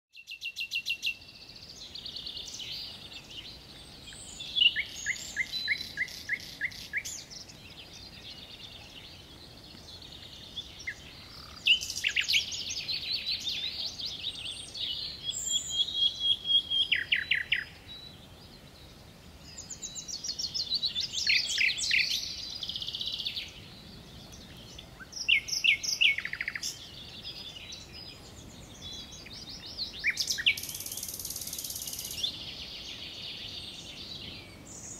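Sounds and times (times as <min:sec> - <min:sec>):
songbirds singing trills: 0:00.1 - 0:34.9
steady background hiss: 0:00.3 - 0:34.9.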